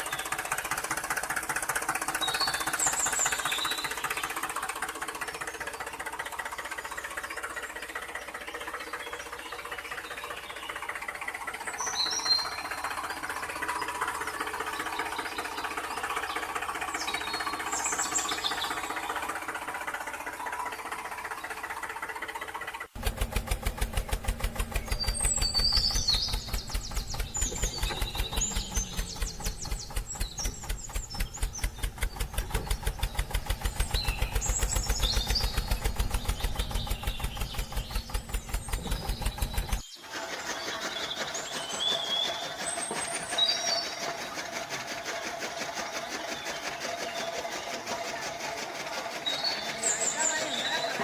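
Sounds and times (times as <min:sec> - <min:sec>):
electric motor rhythmic knocking: 0:00.0 - 0:51.0.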